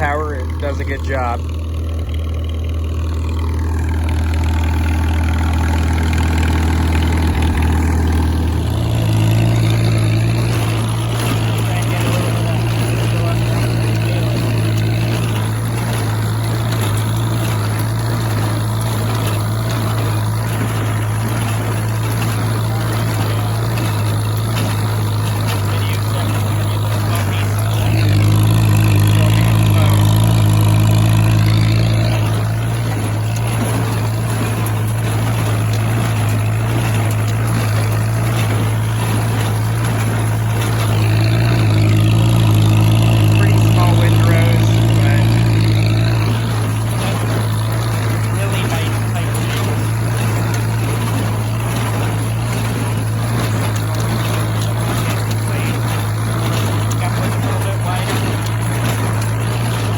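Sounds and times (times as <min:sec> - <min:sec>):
baler clattering: 0:00.0 - 0:59.9
tractor engine under load: 0:00.0 - 0:59.9.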